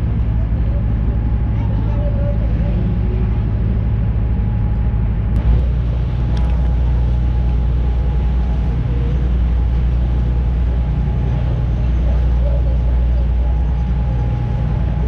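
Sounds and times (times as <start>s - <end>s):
boat engine droning: 0.0s - 15.0s
wind and water rushing: 0.0s - 15.0s.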